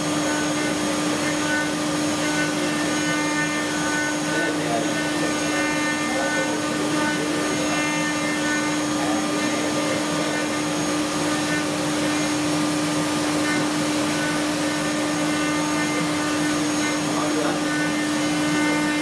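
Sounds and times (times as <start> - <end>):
milling machine whining: 0.0 - 19.0.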